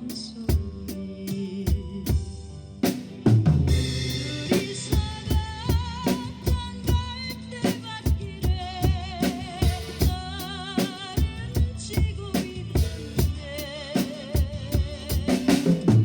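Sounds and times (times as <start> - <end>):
drum kit kick and snare beat: 0.0 - 16.0.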